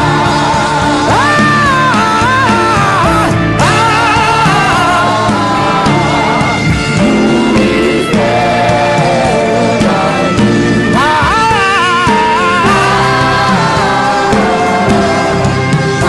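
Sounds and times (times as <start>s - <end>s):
band accompaniment: 0.0s - 16.0s
person singing long notes: 0.0s - 16.0s.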